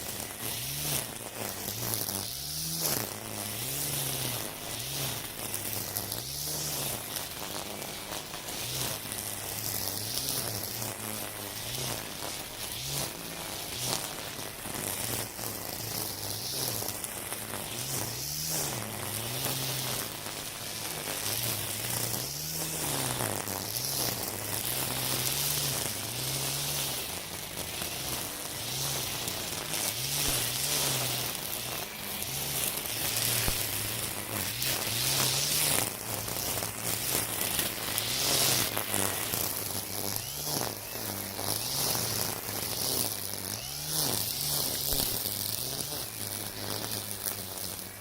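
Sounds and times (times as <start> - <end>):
string trimmer motor: 0.0 - 48.0
trimmer line slashing grass: 0.0 - 48.0.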